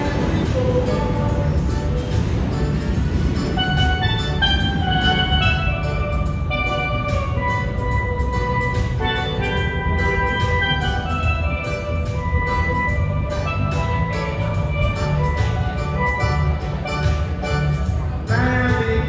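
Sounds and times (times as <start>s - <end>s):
steady low bass: 0.0s - 19.0s
steel pan melody: 0.0s - 19.0s.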